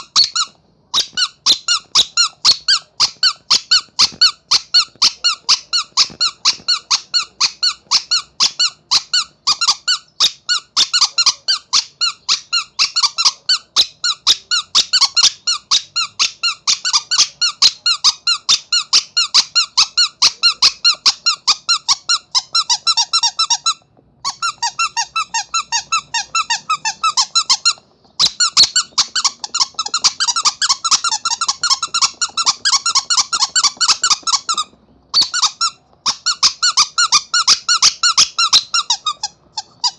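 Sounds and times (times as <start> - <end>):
squeaky toy squeaking: 0.0 - 39.9.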